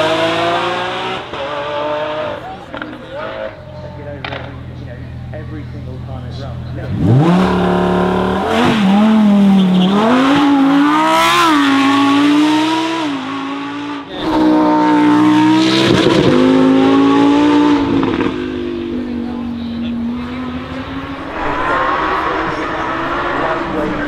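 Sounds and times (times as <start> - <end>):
sports car engine revving: 0.0 - 24.0.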